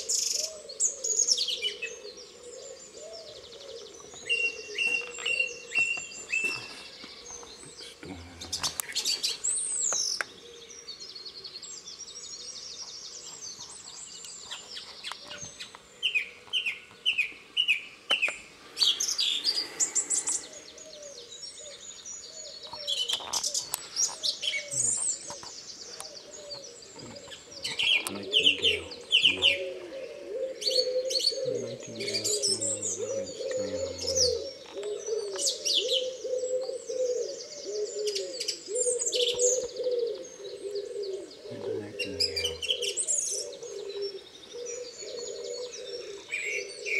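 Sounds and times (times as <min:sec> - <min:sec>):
pigeons cooing: 0:00.0 - 0:11.7, 0:12.4 - 0:46.9
nightingale trilling song: 0:00.0 - 0:46.9
songbirds singing: 0:00.0 - 0:46.9.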